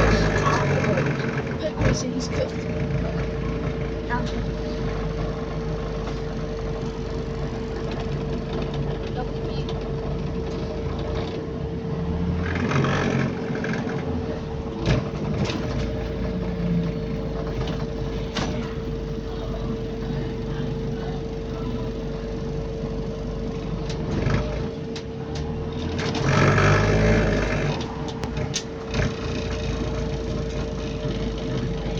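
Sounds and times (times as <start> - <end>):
bus body rattling: 0.0 - 11.8, 12.4 - 31.9
drivetrain whine: 0.0 - 31.9.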